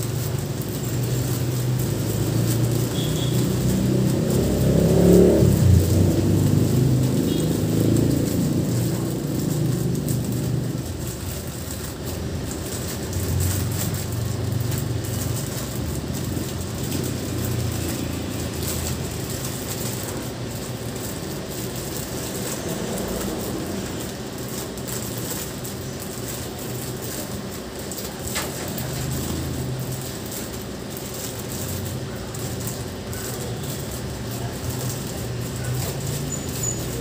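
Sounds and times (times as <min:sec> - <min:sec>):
low engine rumble: 0:00.0 - 0:37.0
plastic bags crinkling: 0:00.0 - 0:37.0.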